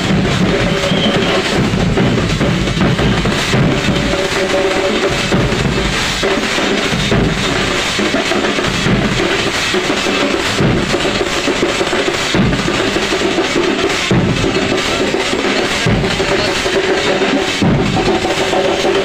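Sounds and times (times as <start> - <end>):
barrel drums beaten with sticks: 0.0 - 19.0.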